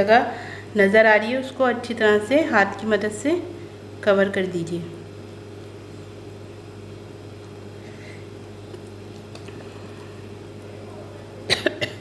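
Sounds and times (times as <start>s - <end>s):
appliance humming: 0.0s - 12.0s.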